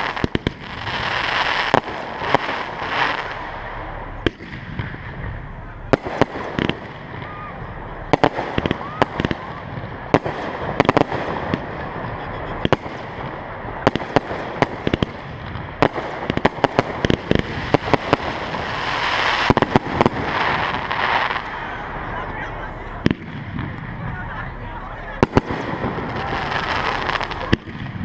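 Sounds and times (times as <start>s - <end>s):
fireworks bangs: 0.0s - 28.0s
fireworks hissing crackle: 0.0s - 28.0s.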